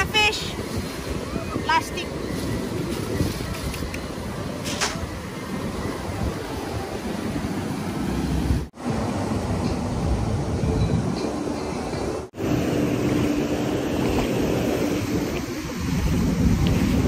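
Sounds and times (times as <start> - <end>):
ocean surf washing ashore: 0.0 - 17.0
wind on microphone: 0.0 - 17.0.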